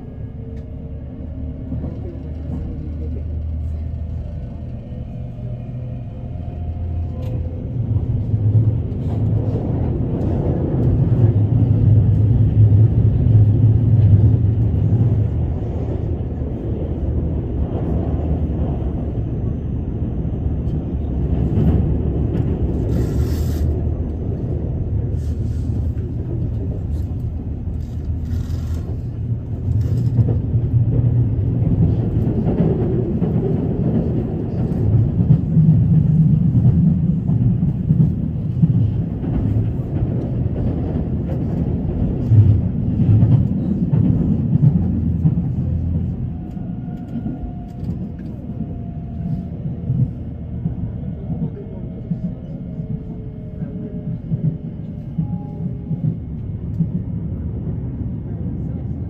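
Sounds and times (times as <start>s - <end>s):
moving train rumble: 0.0s - 59.0s.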